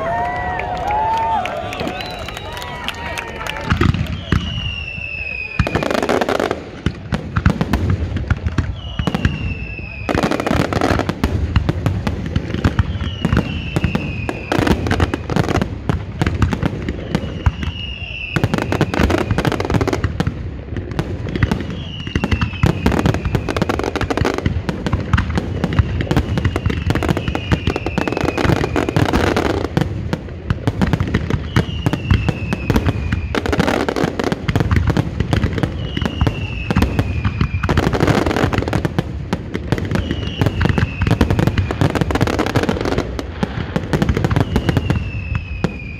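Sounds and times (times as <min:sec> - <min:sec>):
falling firework whistle: 0:00.0 - 0:06.6, 0:08.3 - 0:11.1, 0:12.6 - 0:15.6, 0:16.6 - 0:20.1, 0:21.3 - 0:24.4, 0:25.0 - 0:29.8, 0:31.2 - 0:38.9, 0:39.7 - 0:45.9
fireworks bursts and crackling: 0:00.0 - 0:45.9.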